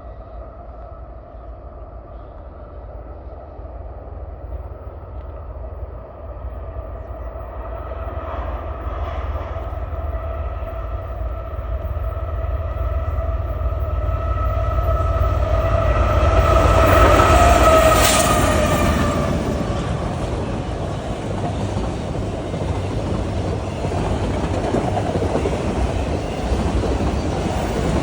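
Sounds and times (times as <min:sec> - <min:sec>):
train rumble with whine: 0:00.0 - 0:28.0.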